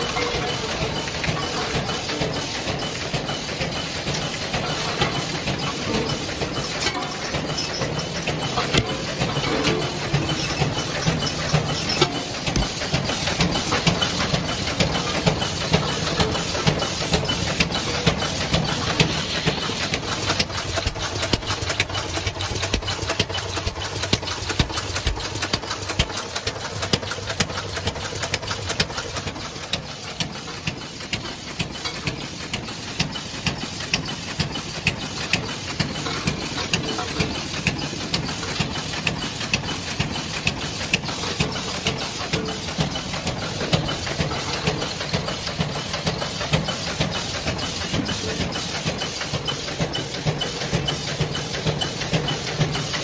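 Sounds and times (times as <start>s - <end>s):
machine hum and hiss: 0.0s - 53.0s
sharp rhythmic machine clacks: 0.0s - 53.0s.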